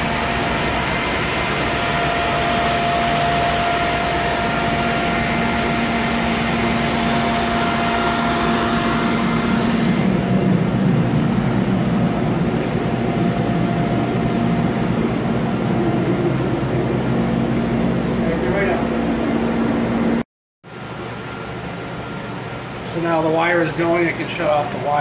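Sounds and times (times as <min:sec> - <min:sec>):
machine hum and whir: 0:00.0 - 0:25.0
thin steady whine: 0:00.0 - 0:25.0.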